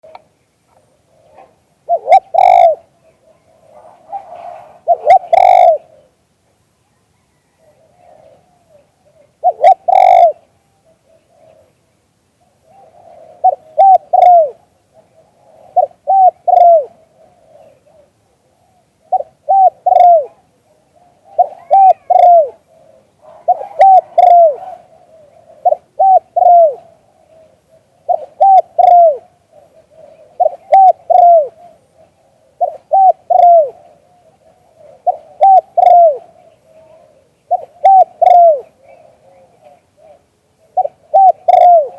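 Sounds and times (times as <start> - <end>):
dove cooing: 0.8 - 6.2, 7.2 - 11.8, 12.4 - 41.9.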